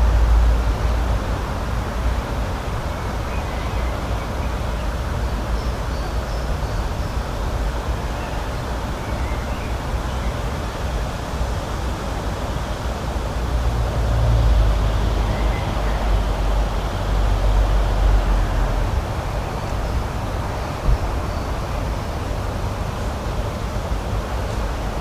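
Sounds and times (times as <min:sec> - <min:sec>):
rushing outdoor ambience: 0:00.0 - 0:25.0.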